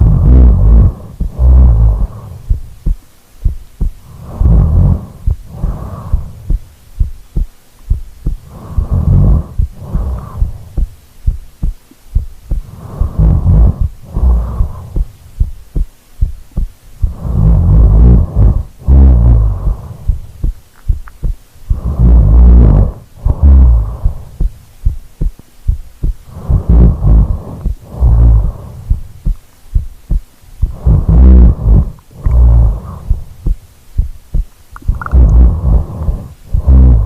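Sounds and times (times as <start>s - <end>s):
sleep breathing: 0.0s - 21.0s, 21.6s - 25.0s, 25.7s - 37.0s
heartbeat: 0.0s - 37.0s.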